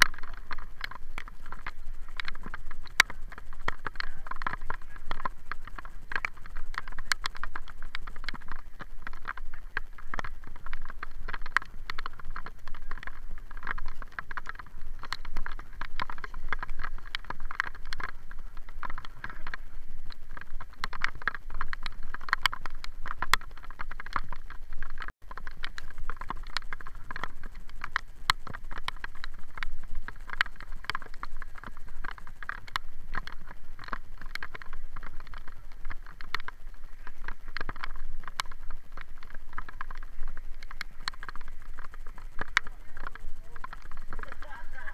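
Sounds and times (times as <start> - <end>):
bicycle clicking and rattling: 0.0 - 44.9.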